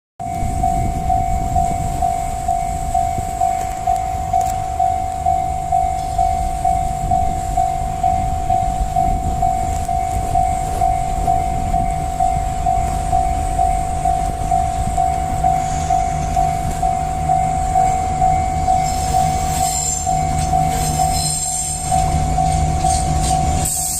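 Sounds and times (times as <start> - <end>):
low engine hum: 0.2 - 21.1
level-crossing alarm ringing: 0.2 - 23.9
locomotive and wagons rumbling: 0.2 - 23.9.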